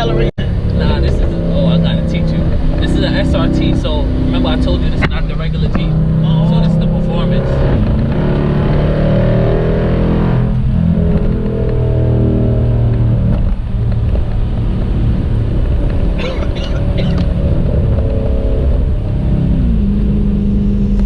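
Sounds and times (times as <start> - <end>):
car engine droning while driving: 0.0 - 21.0.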